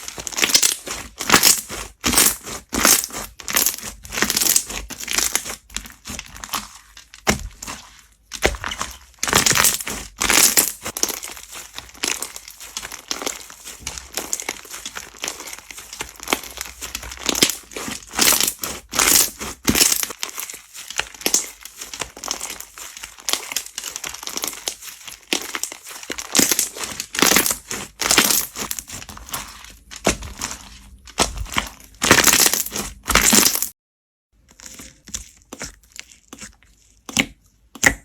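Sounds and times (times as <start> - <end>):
slime crackling and squelching: 0.0 - 33.8, 34.4 - 38.0.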